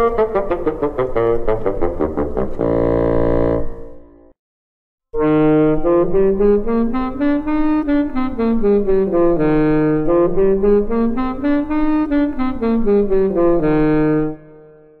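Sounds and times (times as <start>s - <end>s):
instrumental music in harmony: 0.0s - 4.4s, 5.2s - 15.0s.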